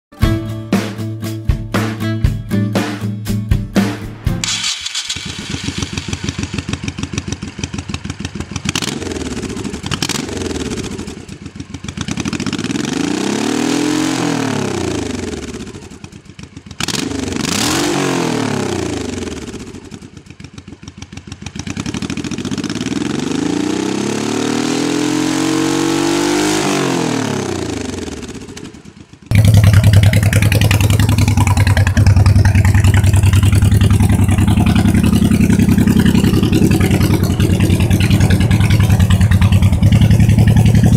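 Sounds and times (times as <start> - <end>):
motorcycle engine revving: 4.4 - 40.9.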